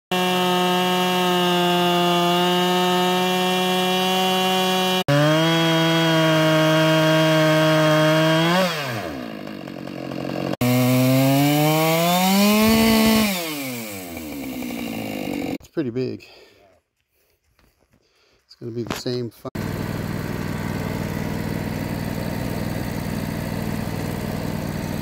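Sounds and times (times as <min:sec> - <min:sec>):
chainsaw cutting log at full throttle: 0:00.1 - 0:15.6, 0:19.5 - 0:25.0.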